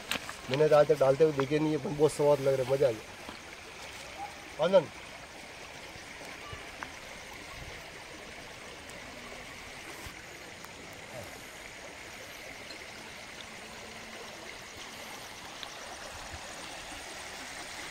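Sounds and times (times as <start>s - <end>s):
rushing outdoor background noise: 0.0s - 17.9s.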